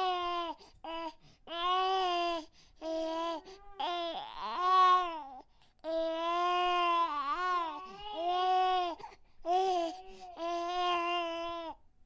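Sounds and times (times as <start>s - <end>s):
baby crying: 0.0s - 11.8s.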